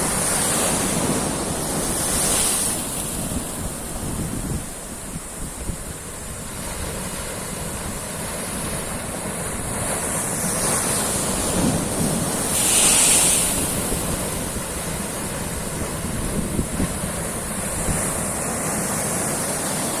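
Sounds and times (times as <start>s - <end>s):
wind buffeting microphone: 0.0s - 18.5s
ocean waves breaking: 0.0s - 20.0s.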